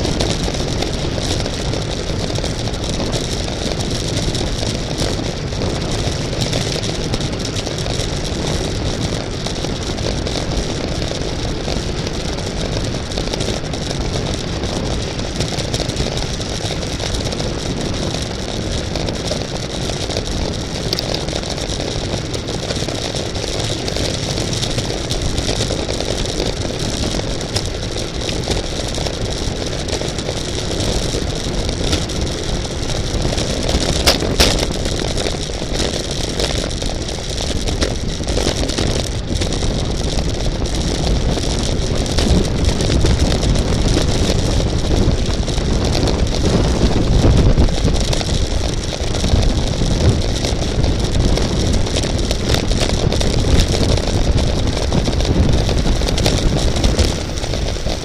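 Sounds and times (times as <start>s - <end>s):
wind rush and road noise: 0.0s - 58.0s.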